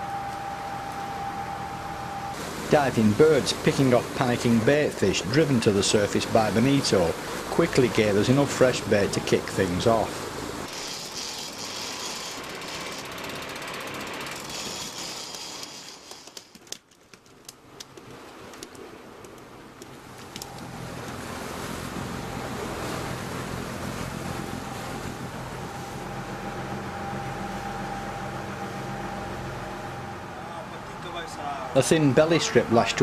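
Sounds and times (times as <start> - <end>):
low engine drone: 0.0 - 16.0, 20.0 - 33.0
boat rushing noise: 0.0 - 33.0.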